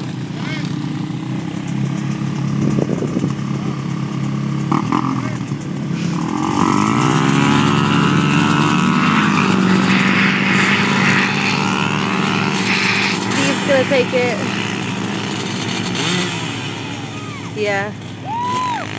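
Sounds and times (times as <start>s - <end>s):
atv engine revving: 0.0s - 18.9s
pickup truck engines revving: 0.0s - 18.9s.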